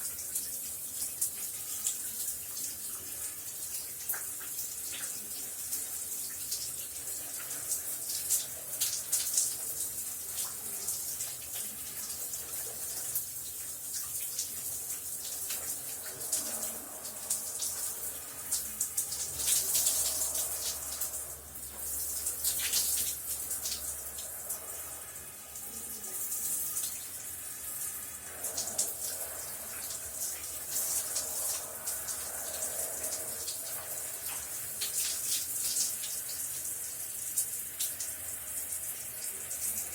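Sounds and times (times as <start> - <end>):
shower spraying water: 0.0 - 39.9.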